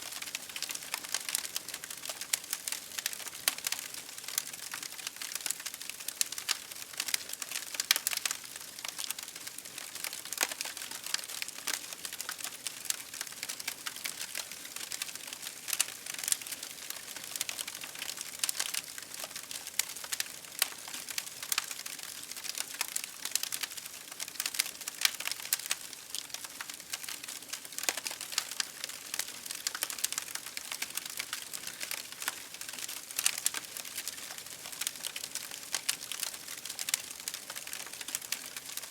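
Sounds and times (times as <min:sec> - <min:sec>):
campfire wood crackling: 0:00.0 - 0:38.9.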